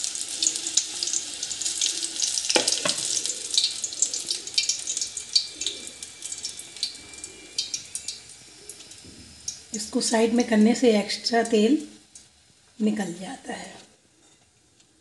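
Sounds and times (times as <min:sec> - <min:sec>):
hot oil crackling and sizzling: 0:00.0 - 0:13.5.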